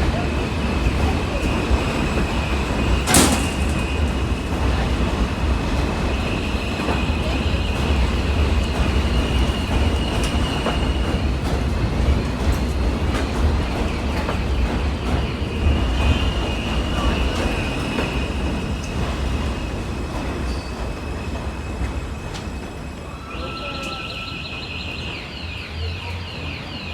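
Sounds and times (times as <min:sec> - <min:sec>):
wheels clicking on rails: 0:00.0 - 0:22.8
subway train rumble: 0:00.0 - 0:26.9
train high squeal: 0:00.7 - 0:12.3, 0:12.9 - 0:26.9.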